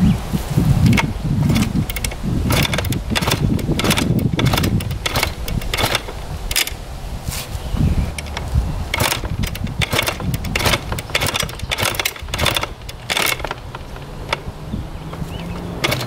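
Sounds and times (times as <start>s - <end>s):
low uneven rumble: 0.0s - 16.0s
dirt bike parts clicking and rattling: 0.8s - 6.8s, 8.1s - 16.0s.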